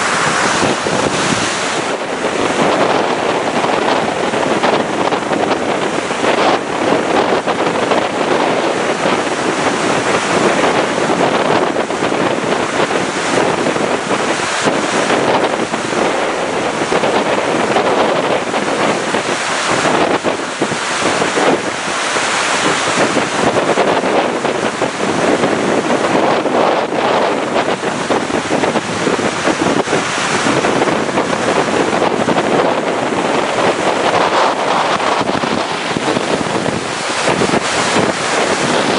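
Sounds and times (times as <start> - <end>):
floodwater rushing: 0.0 - 38.9
wind buffeting microphone: 0.0 - 38.9.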